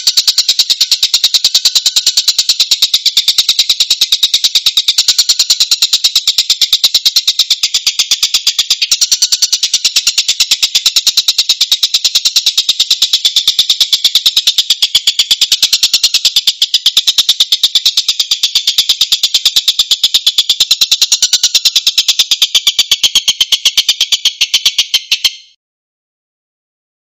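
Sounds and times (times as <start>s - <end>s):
rapid rasping bird calls: 0.0s - 25.6s.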